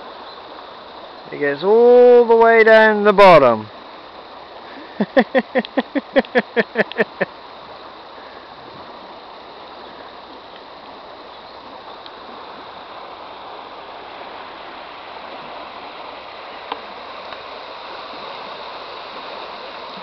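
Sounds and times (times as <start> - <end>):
river rushing over stones: 0.0 - 20.0.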